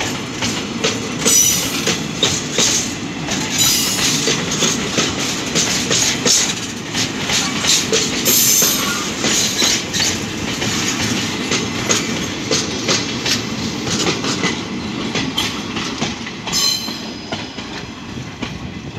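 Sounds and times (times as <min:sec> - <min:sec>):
train wheels clattering: 0:00.0 - 0:18.9.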